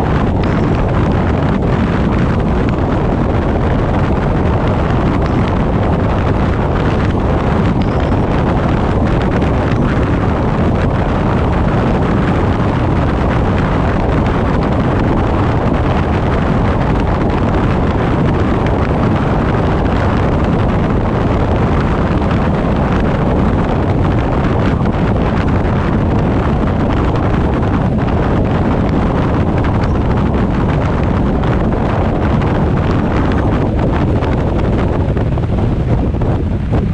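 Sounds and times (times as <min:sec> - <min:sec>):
tyre and road noise: 0:00.0 - 0:36.9
wind rush on microphone: 0:00.0 - 0:36.9.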